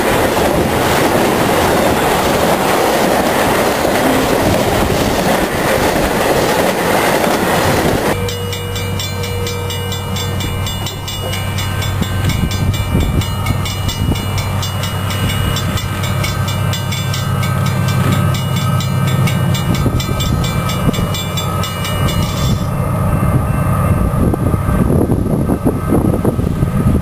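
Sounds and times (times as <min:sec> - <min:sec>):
diesel locomotive engine rumble: 0:00.0 - 0:27.0.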